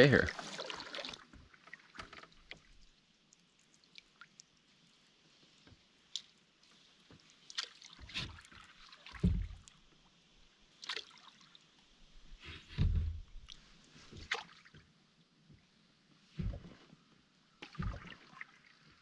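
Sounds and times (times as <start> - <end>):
water splashing and dripping: 0.0 - 14.9, 17.6 - 19.0.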